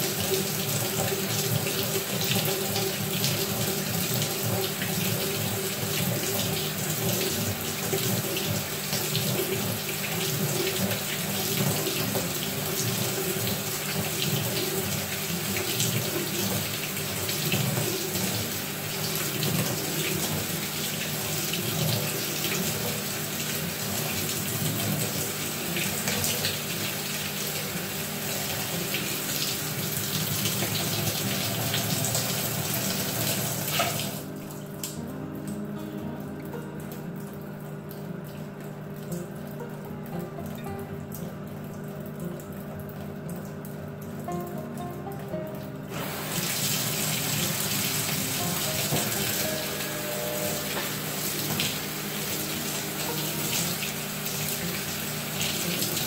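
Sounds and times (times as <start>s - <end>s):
water running into washer tub: 0.0s - 56.0s.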